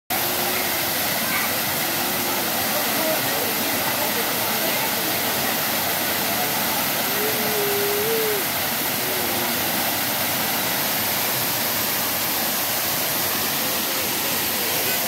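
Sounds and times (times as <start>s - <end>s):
waterfall pouring onto rocks: 0.1s - 15.0s.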